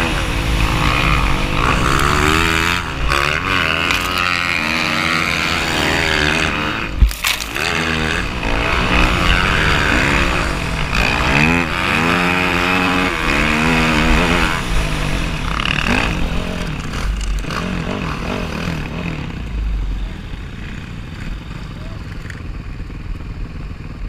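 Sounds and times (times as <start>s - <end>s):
dirt bike engine revving: 0.0s - 21.6s.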